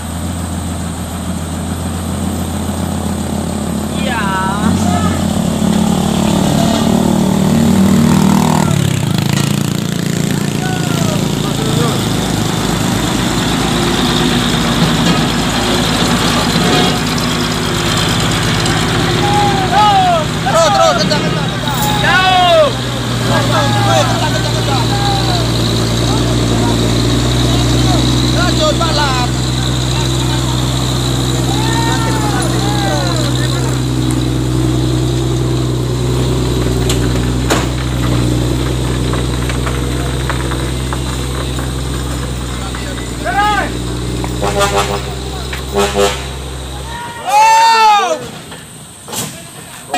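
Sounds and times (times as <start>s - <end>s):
truck diesel engine idling: 0.0s - 47.2s.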